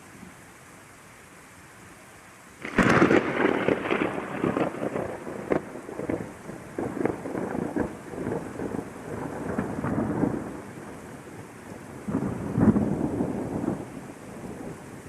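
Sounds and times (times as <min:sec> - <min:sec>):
steady rain: 0:00.0 - 0:15.0
thunder rumbling and crackling: 0:02.6 - 0:15.0.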